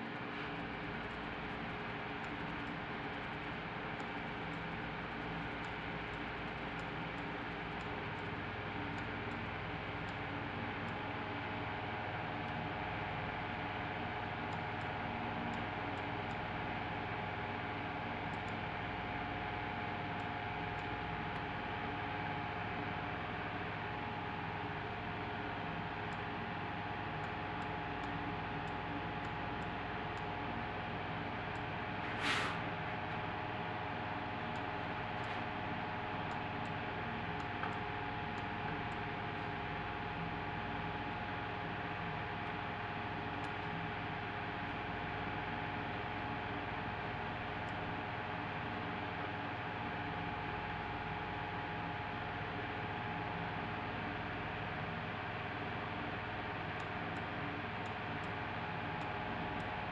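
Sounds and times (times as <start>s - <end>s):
faint hum: 0.0s - 59.9s.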